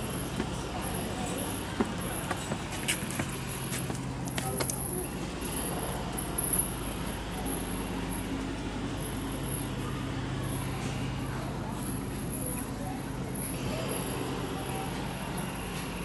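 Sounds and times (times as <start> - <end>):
faint voices: 0.0 - 16.0
low traffic hum: 0.0 - 16.0.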